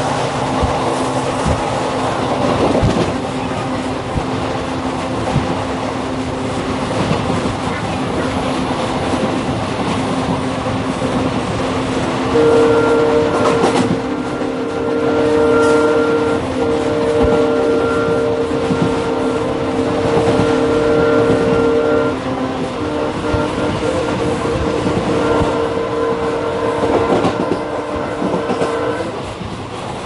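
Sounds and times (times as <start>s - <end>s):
train horn blast: 0.0s - 29.4s
sharp clacks of train wheels: 0.0s - 30.0s
train wheels rumbling on rail: 0.0s - 30.0s.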